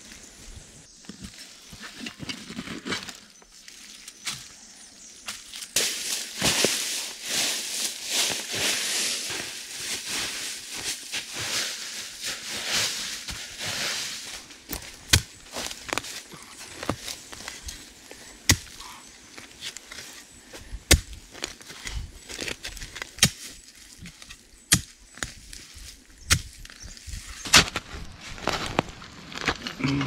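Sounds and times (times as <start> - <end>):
raking through leaves and soil: 0.9 - 24.4, 25.1 - 30.0.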